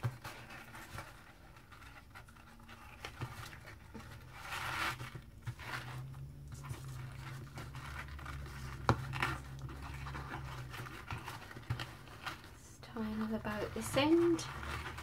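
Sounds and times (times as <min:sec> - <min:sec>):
paper and ribbon rustling: 0:00.0 - 0:15.0.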